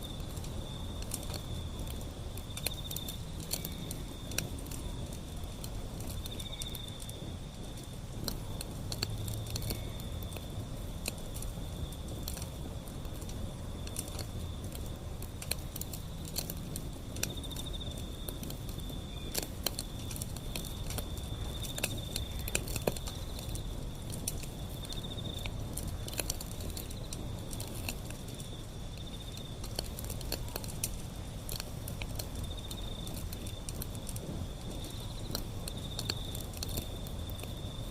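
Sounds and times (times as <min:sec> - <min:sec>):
insect trill: 0:00.0 - 0:37.9
wood fire crackling and popping: 0:00.0 - 0:37.9.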